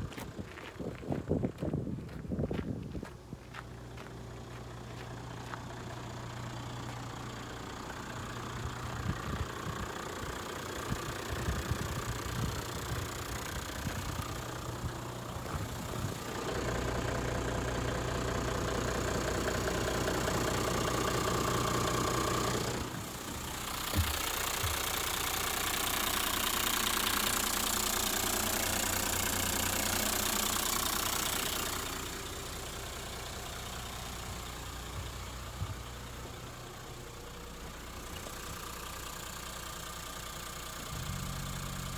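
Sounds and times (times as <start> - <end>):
diesel engine idling and revving: 0.0 - 41.9.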